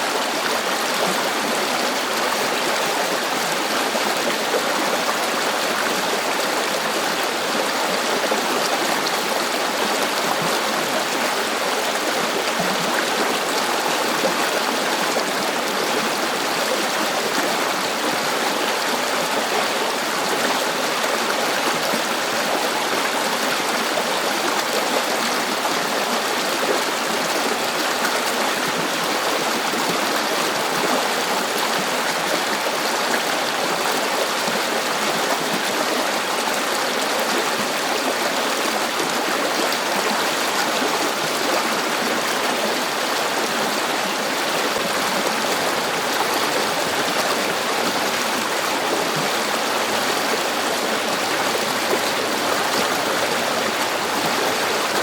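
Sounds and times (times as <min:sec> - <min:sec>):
river flowing over stones: 0:00.0 - 0:55.0.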